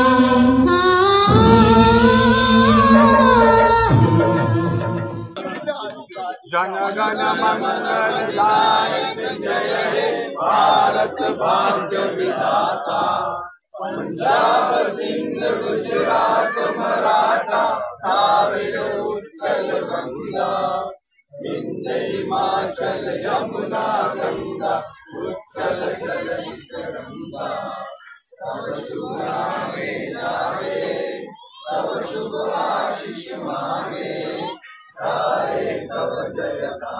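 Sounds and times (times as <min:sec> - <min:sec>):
group of men singing: 0:06.5 - 0:36.9.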